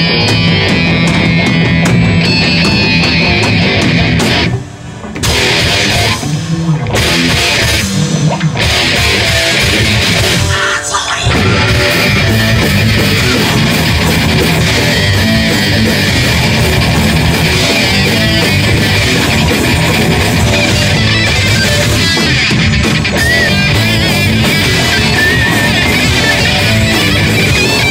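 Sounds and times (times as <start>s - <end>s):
heavy metal band playing: 0.0s - 27.9s.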